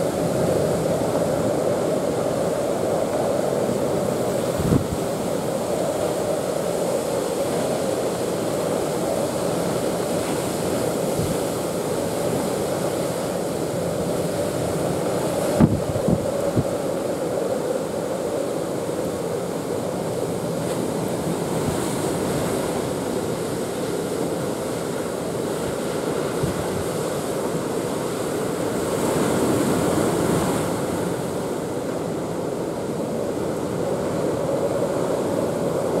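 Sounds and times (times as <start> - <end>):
waves breaking: 0.0 - 36.0
wind: 0.0 - 36.0.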